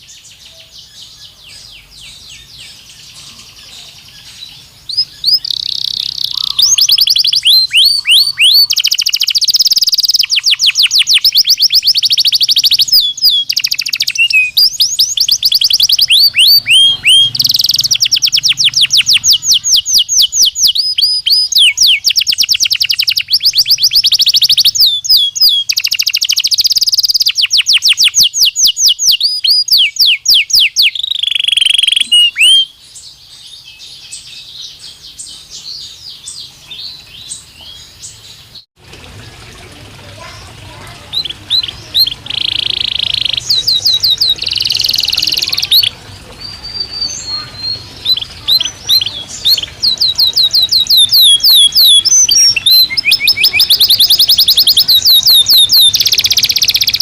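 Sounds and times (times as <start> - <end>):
canary singing fast trills: 0.0 - 38.7, 40.2 - 57.0.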